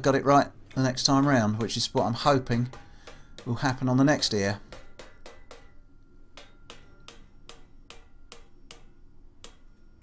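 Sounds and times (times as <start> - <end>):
hammer tapping sheet steel: 1.4 - 10.0.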